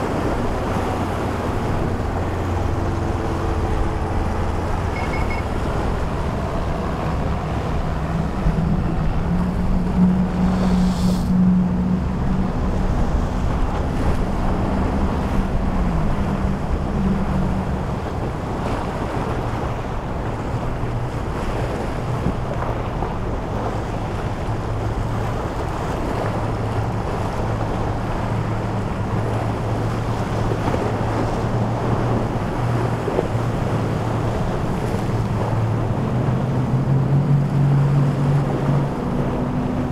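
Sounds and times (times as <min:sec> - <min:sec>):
boat engines humming: 0:00.0 - 0:39.9
surf: 0:00.0 - 0:39.9
wind on microphone: 0:00.0 - 0:39.9.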